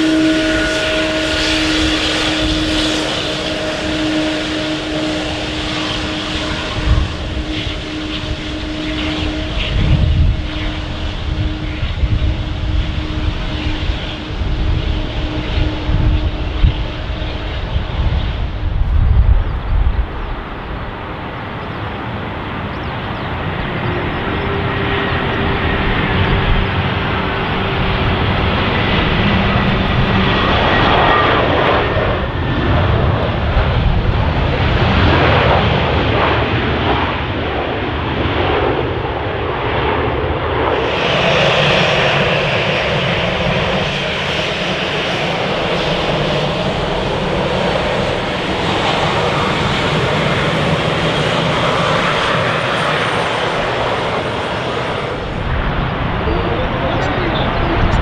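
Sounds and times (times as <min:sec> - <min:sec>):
jet engines rumbling: 0:00.0 - 0:58.0
wind buffeting microphone: 0:00.0 - 0:58.0.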